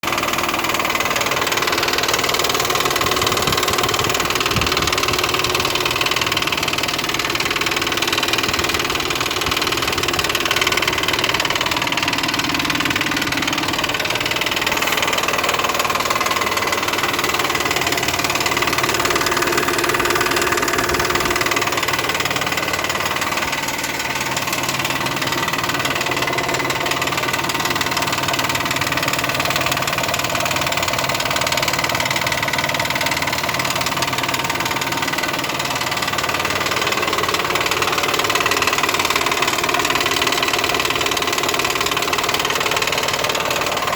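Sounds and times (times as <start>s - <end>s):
engine running: 0.0s - 43.9s
rapid steady knocking: 0.0s - 43.9s.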